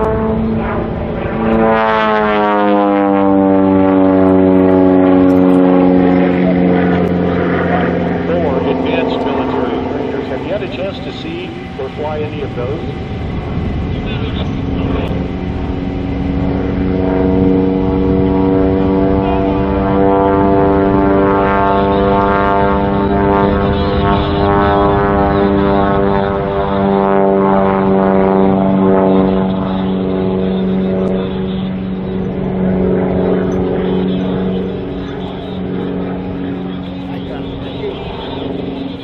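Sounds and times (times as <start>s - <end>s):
propeller plane droning overhead: 0.0s - 39.0s.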